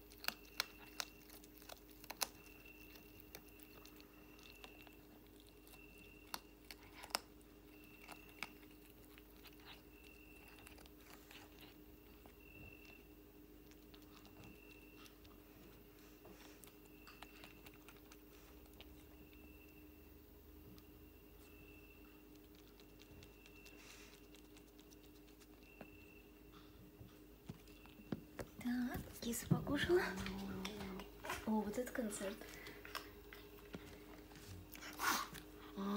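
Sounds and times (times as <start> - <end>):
cat chewing with crunches: 0.0 - 35.9
steady low hum: 0.0 - 35.9.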